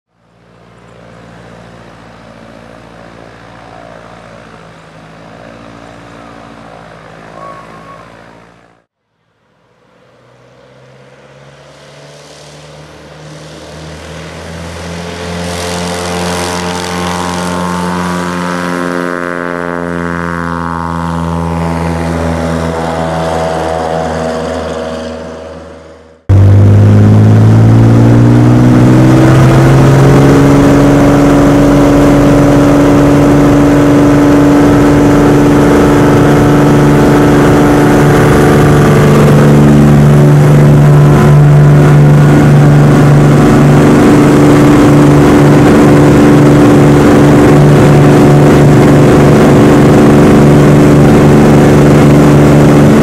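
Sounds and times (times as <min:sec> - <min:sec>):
faint propeller plane engine: 0:00.1 - 0:53.0
propeller plane climbing past: 0:00.1 - 0:53.0
loud engine inside cockpit: 0:00.2 - 0:09.0, 0:10.9 - 0:53.0.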